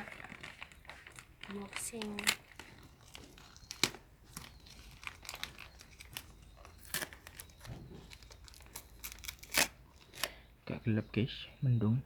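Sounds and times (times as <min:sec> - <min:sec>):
gift wrapping tearing and crumpling: 0:00.0 - 0:10.4.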